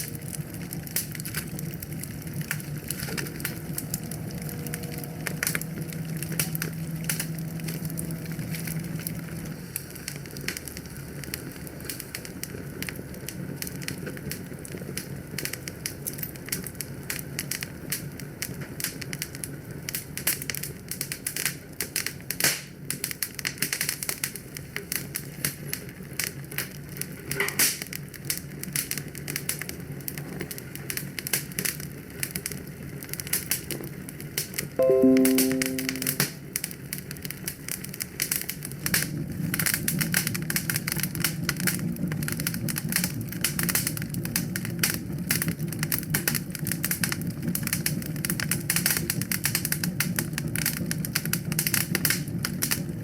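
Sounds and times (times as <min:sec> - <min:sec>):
low rumble of flames: 0:00.0 - 0:34.5, 0:37.9 - 0:53.0
fire crackling and popping: 0:00.0 - 0:36.1, 0:37.9 - 0:53.0.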